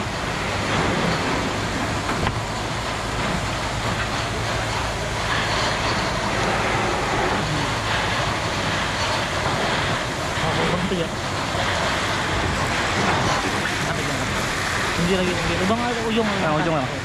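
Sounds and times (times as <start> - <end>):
fire hose spraying water: 0.0 - 17.0
low pump engine hum: 0.0 - 17.0.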